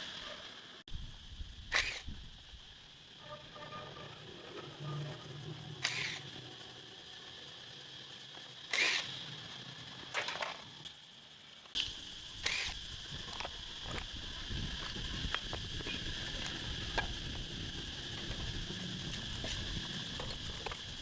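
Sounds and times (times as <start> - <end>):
high-pitched hum: 0.0 - 21.0.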